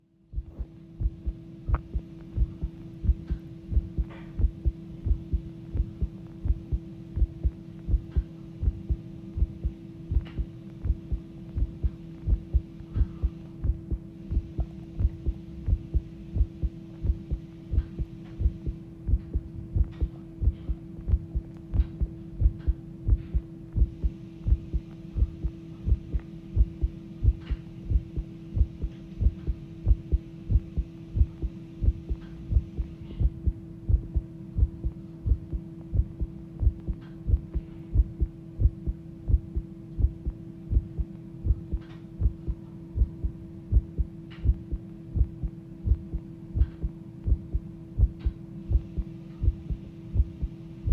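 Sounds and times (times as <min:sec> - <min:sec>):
steady hum: 0:00.0 - 0:50.9
heart beating fast: 0:00.3 - 0:50.9.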